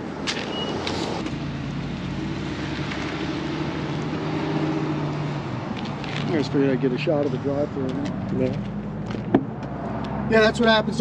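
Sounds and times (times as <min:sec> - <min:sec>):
car engine humming: 0:00.0 - 0:11.0
outdoor noise rush: 0:00.0 - 0:11.0.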